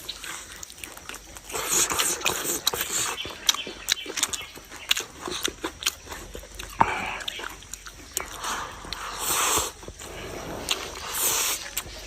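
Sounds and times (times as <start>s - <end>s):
chewing and crunching bones: 0.0s - 12.0s.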